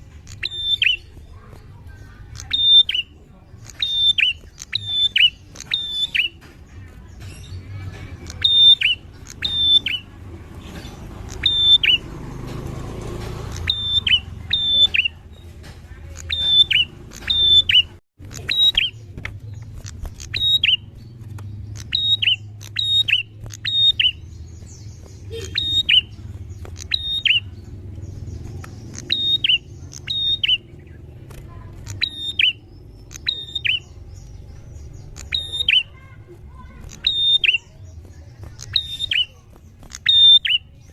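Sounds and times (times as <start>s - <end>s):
bird calling in sharp notes: 0.2s - 6.4s, 8.2s - 10.2s, 11.2s - 12.1s, 13.5s - 19.1s, 19.8s - 40.9s.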